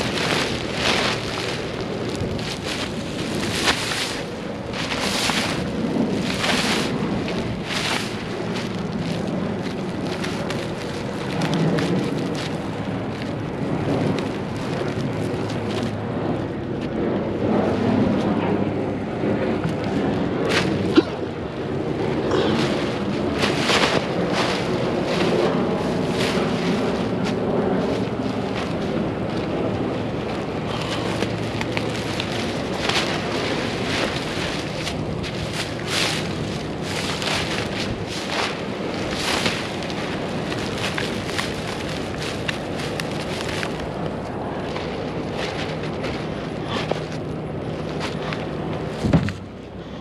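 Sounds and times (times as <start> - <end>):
plastic wrap crinkling: 0.0 - 15.9, 21.7 - 49.2
wind rumble on microphone: 0.0 - 50.0.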